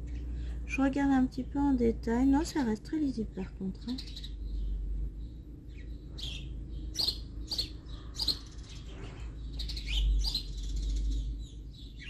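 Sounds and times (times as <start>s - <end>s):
low steady rumble: 0.0s - 12.0s
small birds chirping: 0.0s - 12.0s.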